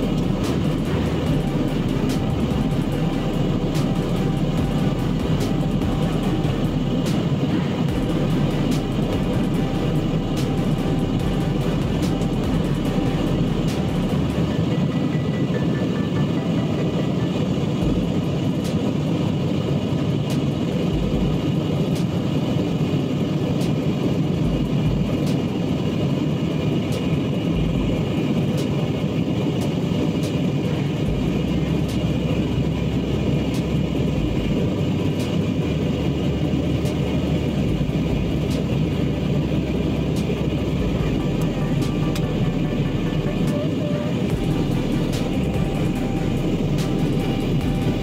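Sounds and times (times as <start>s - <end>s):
airflow past fuselage: 0.0s - 48.0s
jet engines rushing: 0.0s - 48.0s.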